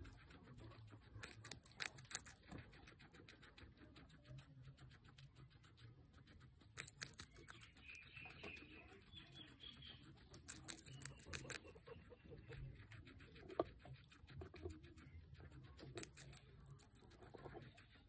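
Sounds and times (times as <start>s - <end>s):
guinea pig crunching and chewing: 0.0s - 18.0s.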